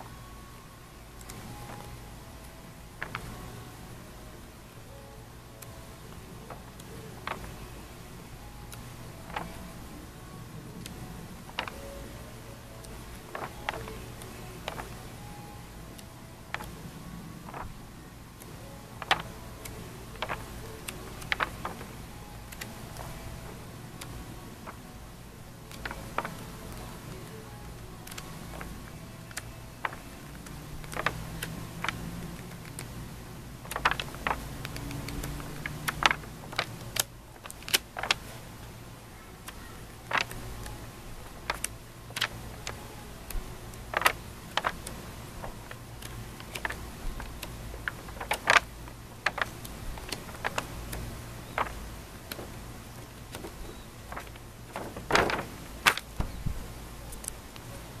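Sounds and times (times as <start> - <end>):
low steady hum: 0.0 - 58.0
album pages clicking and tapping: 1.2 - 3.6, 5.6 - 9.9, 10.8 - 12.2, 12.8 - 15.2, 15.9 - 58.0.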